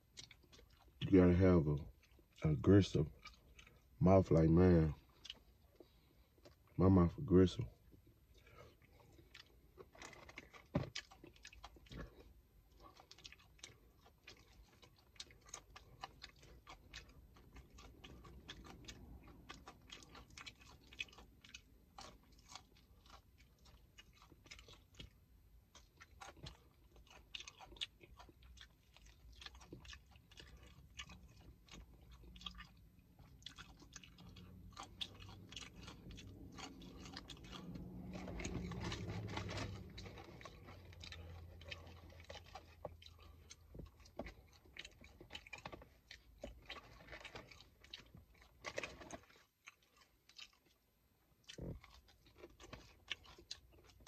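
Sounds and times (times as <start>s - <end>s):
chewing fried chicken crunches: 0.0s - 54.0s.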